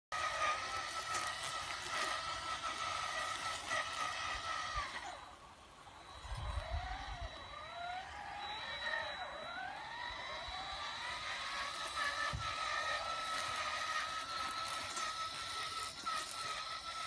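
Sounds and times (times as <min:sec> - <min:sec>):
electric motors whining: 0:00.1 - 0:17.0.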